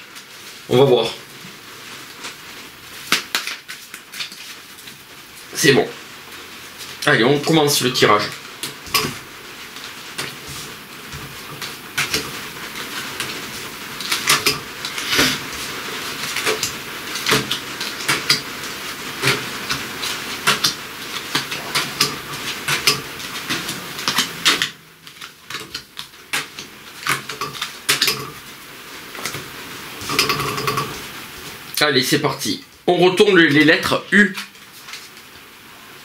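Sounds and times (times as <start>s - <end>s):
steady hiss: 0.0s - 36.0s.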